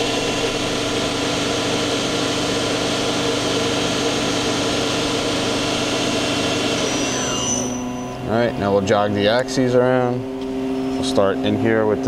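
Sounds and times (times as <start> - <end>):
lathe spindle whine and hum: 0.0 - 12.0.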